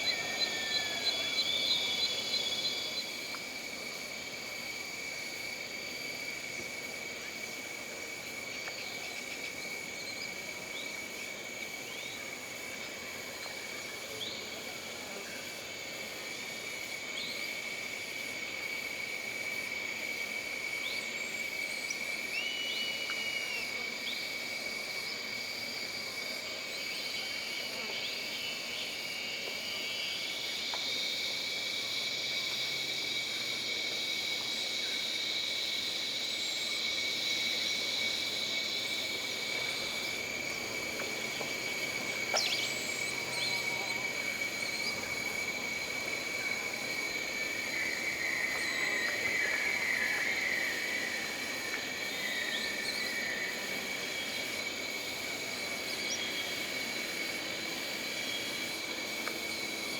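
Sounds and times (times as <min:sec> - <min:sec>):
high drone of insects: 0:00.0 - 0:59.9
insect chorus buzzing: 0:00.0 - 0:59.9.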